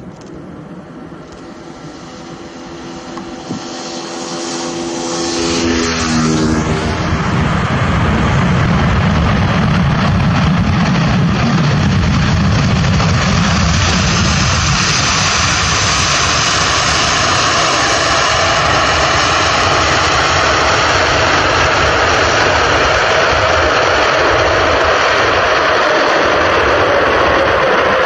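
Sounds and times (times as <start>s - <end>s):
faint engine whine: 0.0s - 28.0s
jet engines roaring: 0.0s - 28.0s.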